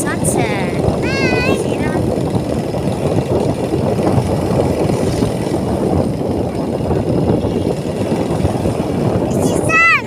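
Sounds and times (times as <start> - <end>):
motorcycle engine rumble: 0.0 - 10.0
wind against microphone: 0.0 - 10.0.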